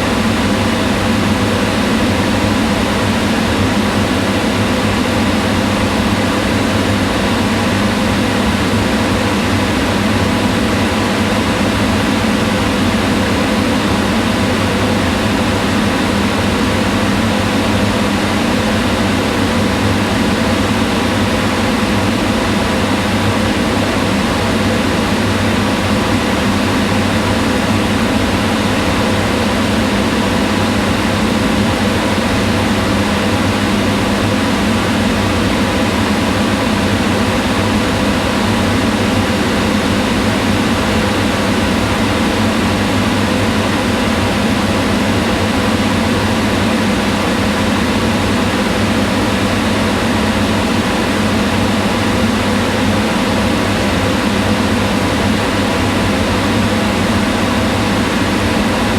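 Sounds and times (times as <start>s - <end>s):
range hood fan running: 0.0s - 58.9s.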